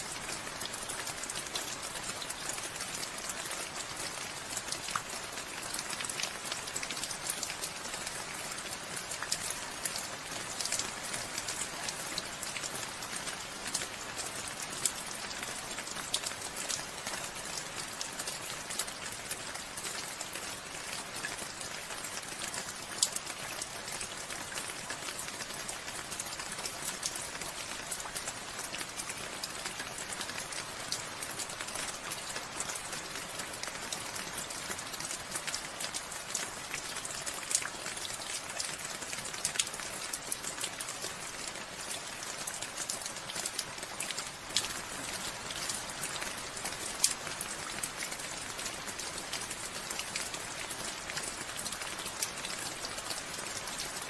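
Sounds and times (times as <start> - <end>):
raindrops ticking on a surface: 0.0 - 54.0
steady rain falling: 0.0 - 54.0.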